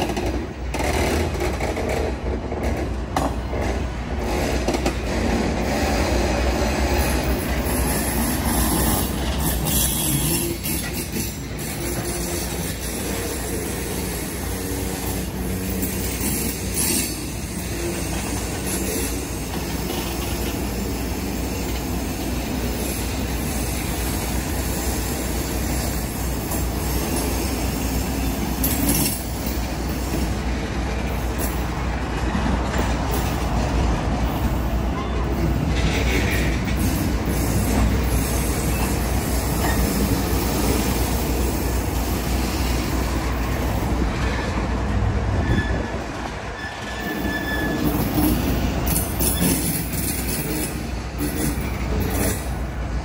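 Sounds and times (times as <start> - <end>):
clacks at rail joints: 0.0 - 24.4, 25.7 - 42.0, 42.9 - 52.7
train wheels rolling on rails: 0.0 - 53.0.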